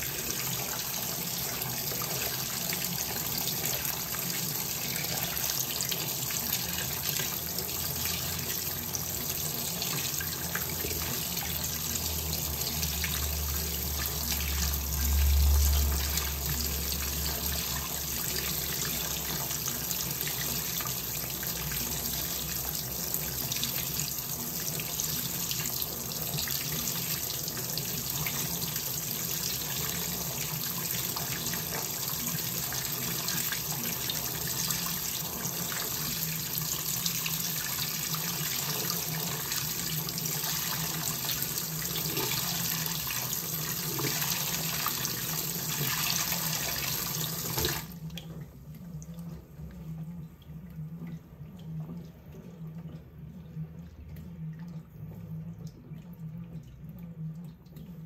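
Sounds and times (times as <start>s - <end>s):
water running into washing machine: 0.0s - 58.0s.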